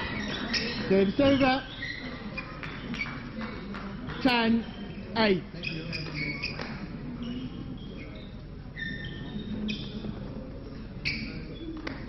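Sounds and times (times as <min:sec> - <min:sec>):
shoes squeaking on sports floor: 0:00.0 - 0:12.0.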